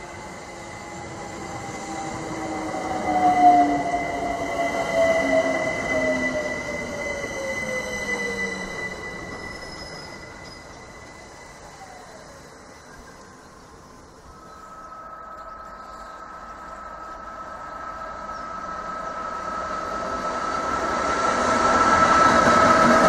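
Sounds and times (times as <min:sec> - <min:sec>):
high squeal: 0:00.3 - 0:19.3.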